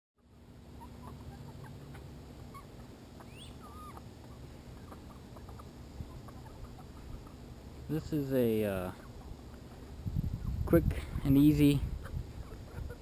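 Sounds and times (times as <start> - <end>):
chickens chirping calls: 0.2 - 13.0
low outdoor rumble: 0.2 - 13.0
chickens clucking: 0.3 - 13.0.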